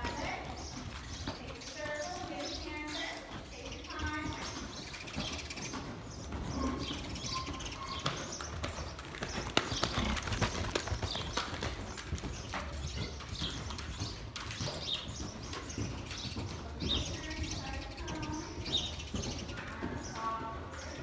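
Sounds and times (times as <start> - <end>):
horse hoofbeats cantering: 0.0 - 21.0.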